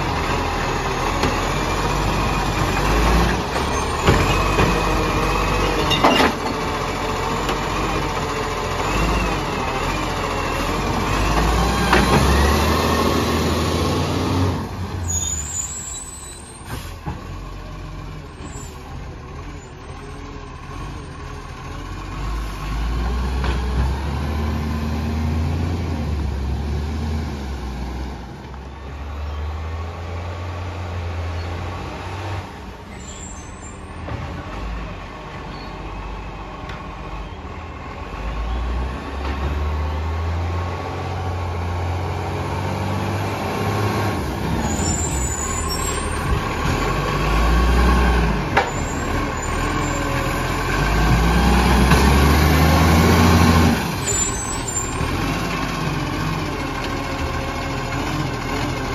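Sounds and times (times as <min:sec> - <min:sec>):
garbage truck diesel engine: 0:00.0 - 0:58.9.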